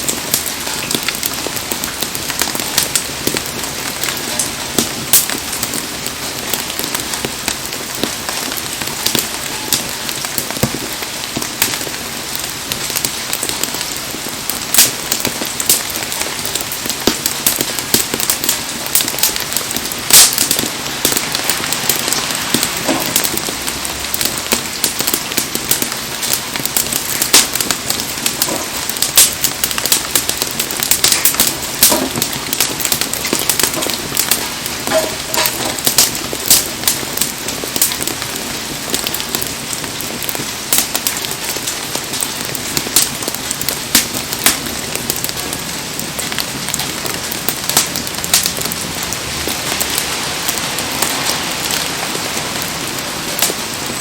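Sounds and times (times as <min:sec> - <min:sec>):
campfire popping and crackling: 0:00.0 - 0:54.0
heavy rain falling: 0:00.0 - 0:54.0.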